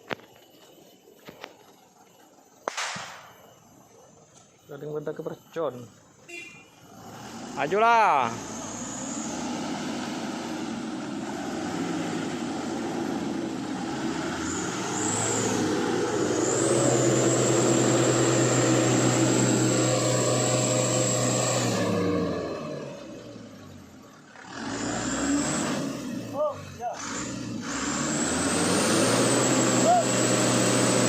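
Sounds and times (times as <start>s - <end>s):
heavy truck engine labouring: 1.6s - 31.0s.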